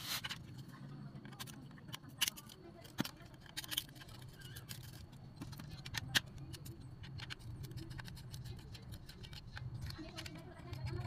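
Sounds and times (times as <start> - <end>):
screwdriver clicking on plastic: 1.2 - 11.0.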